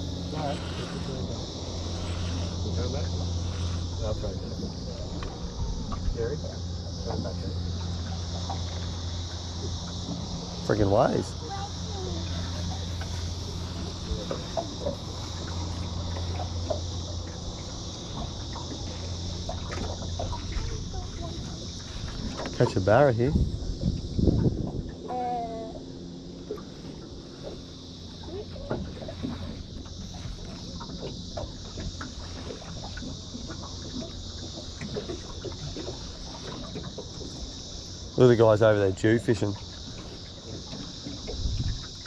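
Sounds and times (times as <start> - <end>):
faint chirps and ticks: 0.0 - 42.0
insects droning: 0.0 - 42.0
low hum: 0.0 - 42.0
water lapping against boat hull: 0.0 - 42.0.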